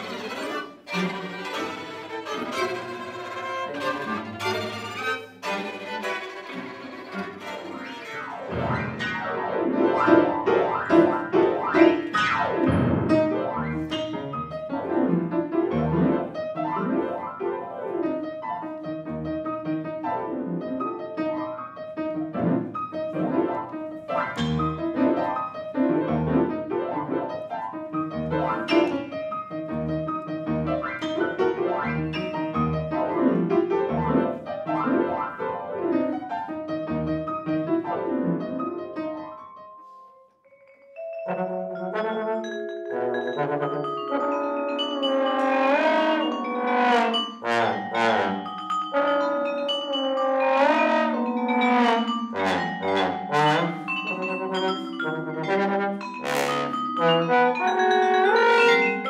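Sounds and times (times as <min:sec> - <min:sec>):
grand piano concert piece: 0:00.0 - 0:59.0.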